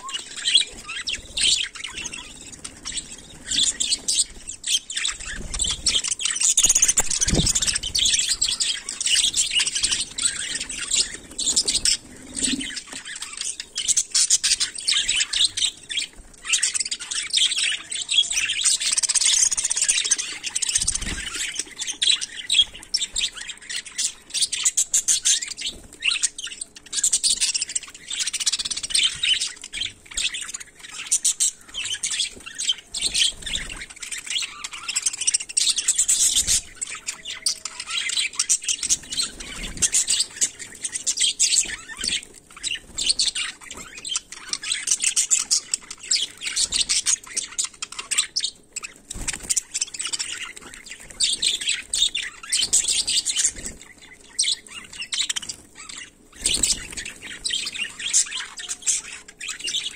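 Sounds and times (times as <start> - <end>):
flock of budgerigars chattering: 0.0 - 59.9.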